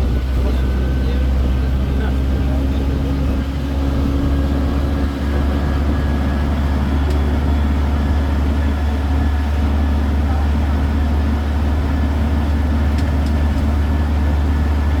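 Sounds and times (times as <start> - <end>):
train engine rumbling: 0.0 - 15.0.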